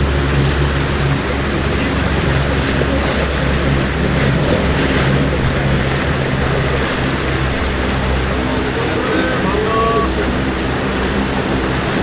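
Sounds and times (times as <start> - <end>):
heavy rain pouring: 0.0 - 12.0
vehicle engine humming: 0.0 - 12.0.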